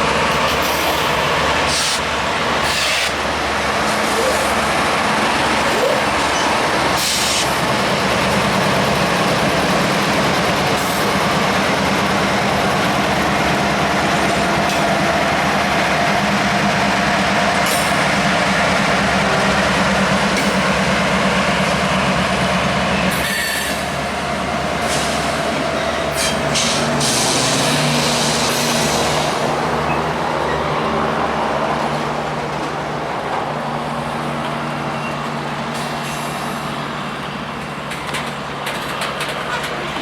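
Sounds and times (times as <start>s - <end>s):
freight train rumbling past: 0.0s - 40.0s.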